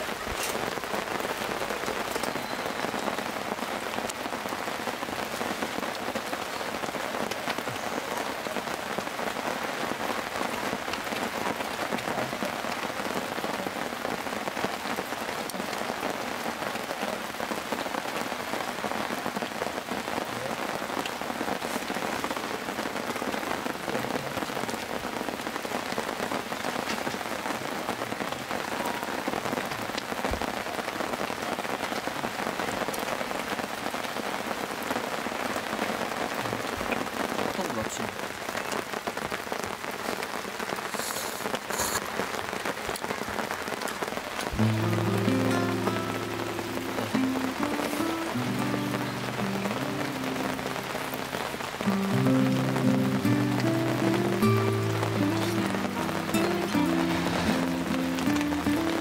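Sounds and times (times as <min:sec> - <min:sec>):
faint ticks of raindrops: 0:00.0 - 0:59.0
heavy rain falling: 0:00.0 - 0:59.0.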